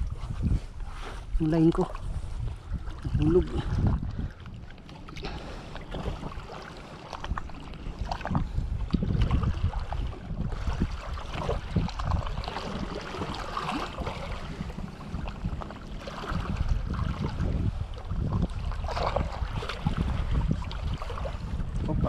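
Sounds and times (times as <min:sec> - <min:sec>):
waves lapping against rocks: 0:00.0 - 0:22.0
wind buffeting microphone: 0:00.0 - 0:22.0.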